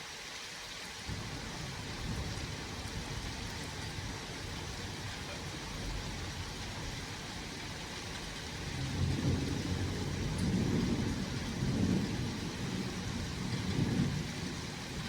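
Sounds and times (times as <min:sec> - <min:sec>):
rain hiss: 0:00.0 - 0:15.0
thunder rumble: 0:01.1 - 0:15.0.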